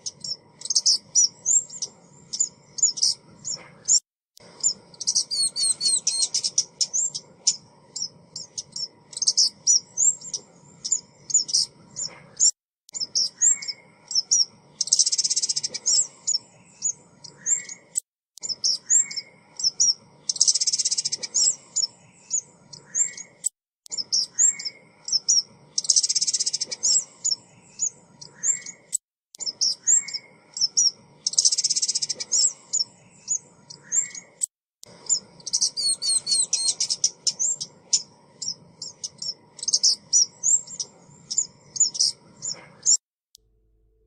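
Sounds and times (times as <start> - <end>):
bird chirping and trilling: 0.0 - 43.0.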